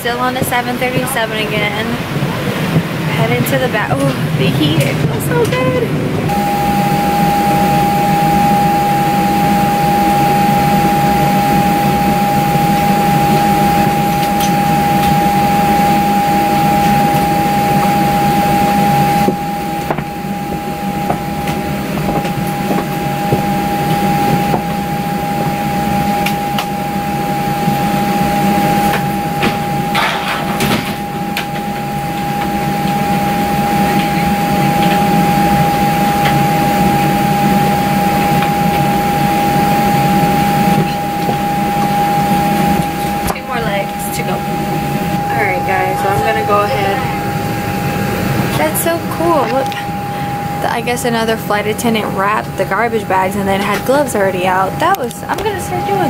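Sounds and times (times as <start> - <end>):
cabin air and equipment noise: 0.0 - 56.0
constant high whine: 0.0 - 56.0.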